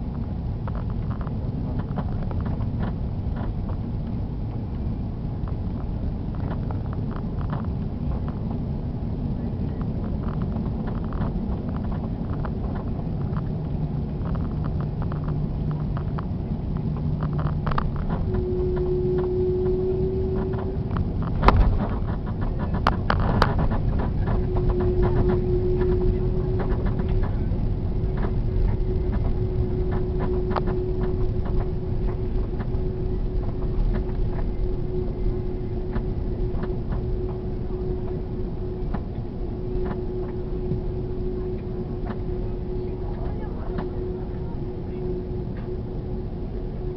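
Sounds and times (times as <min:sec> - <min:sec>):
low cabin rumble with engine hum: 0:00.0 - 0:46.9.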